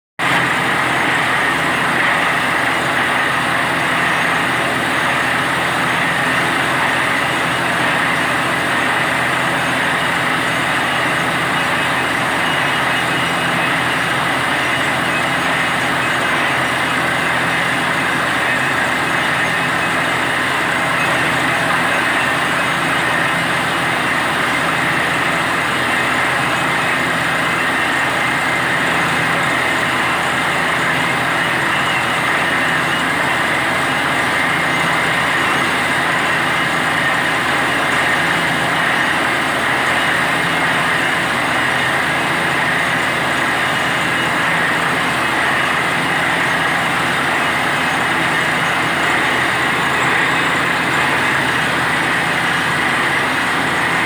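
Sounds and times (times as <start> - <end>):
drilling rig engine drone: 0.2 - 54.0.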